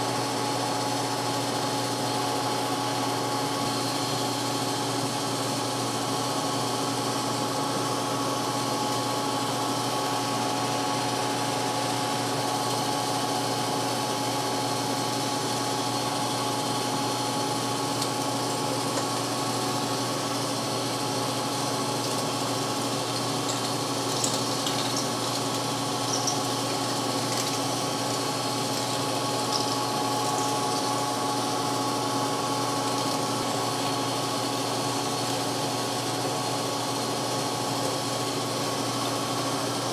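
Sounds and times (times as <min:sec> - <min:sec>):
lathe drilling steel: 0:00.0 - 0:39.9.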